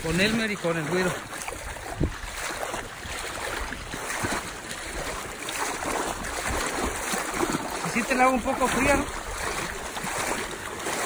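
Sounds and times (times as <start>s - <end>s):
water splashing around wading legs: 0.0s - 11.0s.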